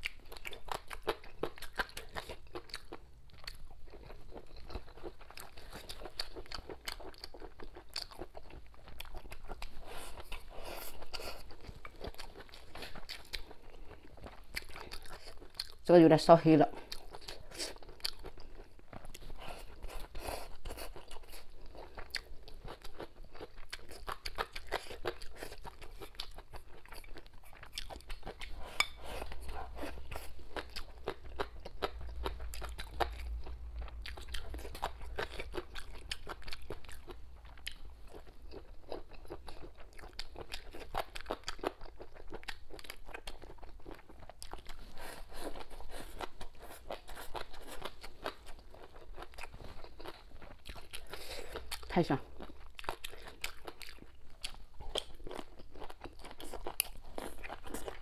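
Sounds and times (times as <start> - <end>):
person chewing crunchily: 0.0 - 15.9, 16.7 - 58.0.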